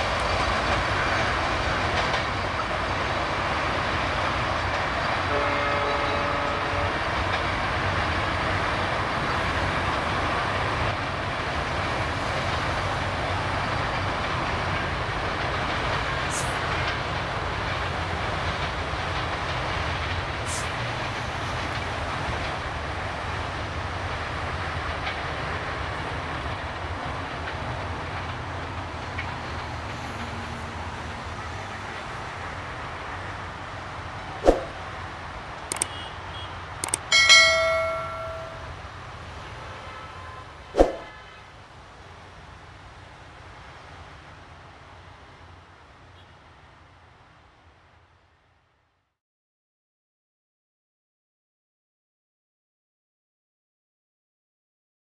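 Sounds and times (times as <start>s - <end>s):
passenger train rushing past: 0.0s - 47.7s.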